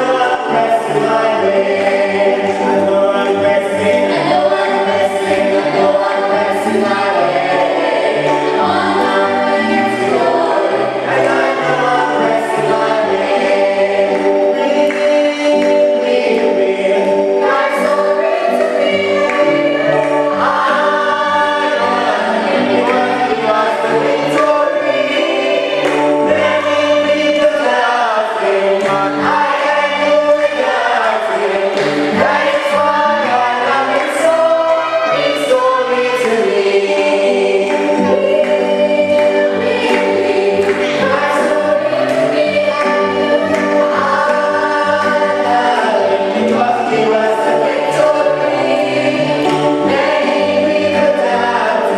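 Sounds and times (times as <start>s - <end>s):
group singing a hymn: 0.0s - 51.9s.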